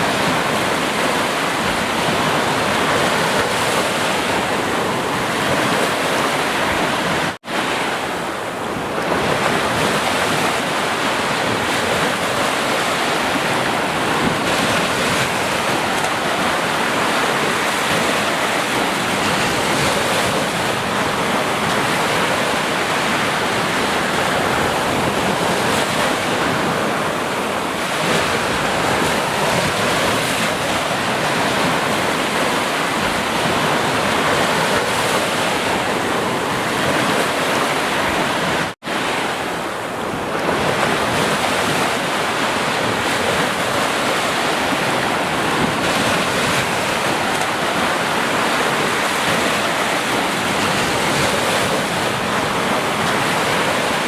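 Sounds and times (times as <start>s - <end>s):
sea surf washing: 0.0s - 54.0s.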